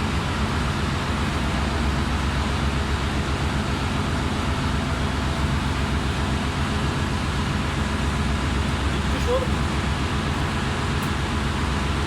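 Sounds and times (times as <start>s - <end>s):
engine-room machinery drone: 0.0s - 12.0s.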